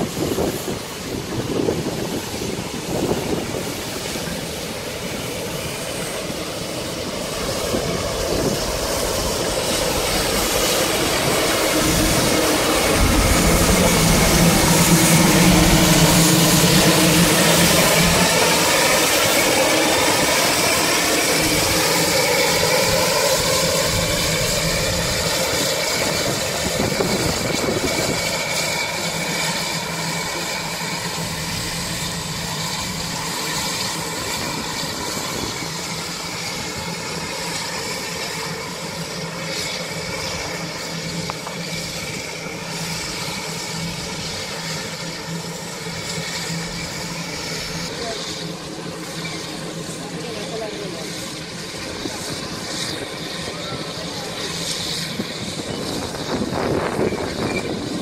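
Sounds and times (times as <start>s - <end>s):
steam locomotive running: 0.0s - 58.0s.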